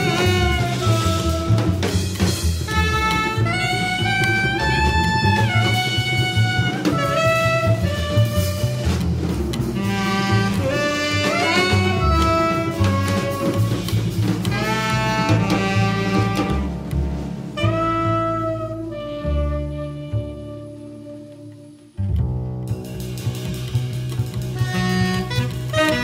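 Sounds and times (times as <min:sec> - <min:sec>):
instrumental jazz music: 0:00.0 - 0:26.0.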